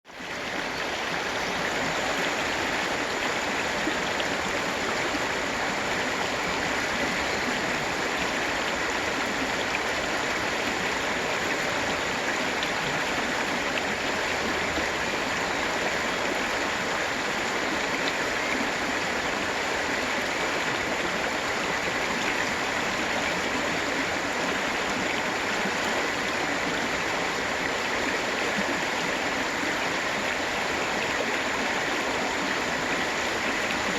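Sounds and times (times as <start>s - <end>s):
river rushing over rapids: 0.1s - 33.9s.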